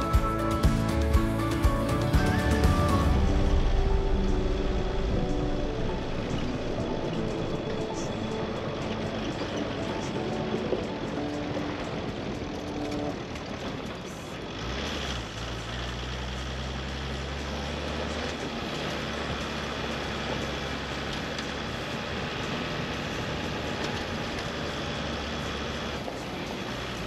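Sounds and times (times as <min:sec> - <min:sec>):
car engine hum: 0:00.0 - 0:27.0
road and tyre noise: 0:00.0 - 0:27.0.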